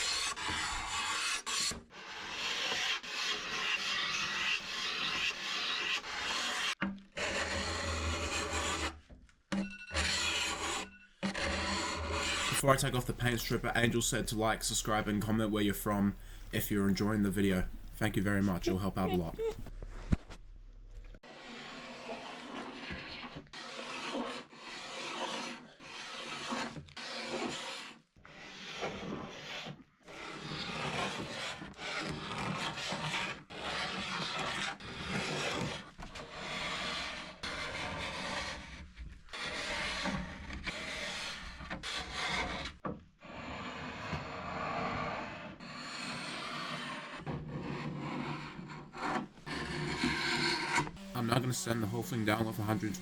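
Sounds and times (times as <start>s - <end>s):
paint scraper scraping wood: 0.0s - 19.6s, 21.2s - 53.0s.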